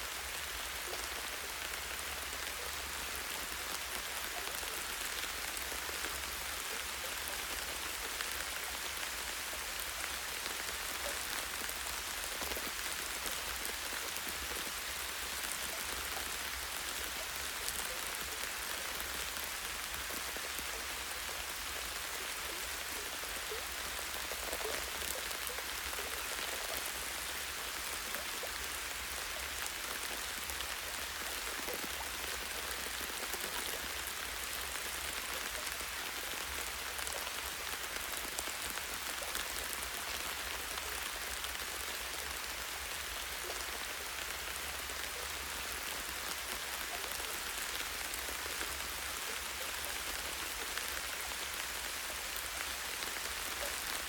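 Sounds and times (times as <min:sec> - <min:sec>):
light rain pattering on leaves: 0:00.0 - 0:54.0.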